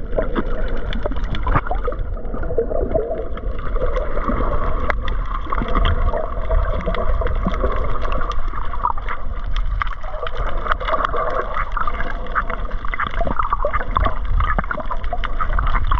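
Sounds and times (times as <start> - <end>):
muffled underwater rumble: 0.0 - 15.9
small underwater clicks: 0.0 - 15.9.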